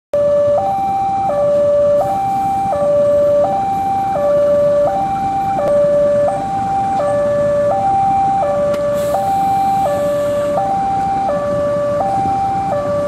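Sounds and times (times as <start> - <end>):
diesel locomotive rumble: 0.2 - 13.0
two-tone electronic warning alarm: 0.2 - 13.0.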